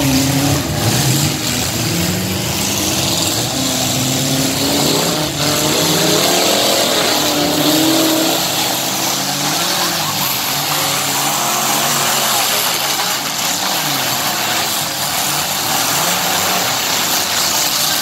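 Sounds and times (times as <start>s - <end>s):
car and truck engines revving: 0.0s - 18.0s.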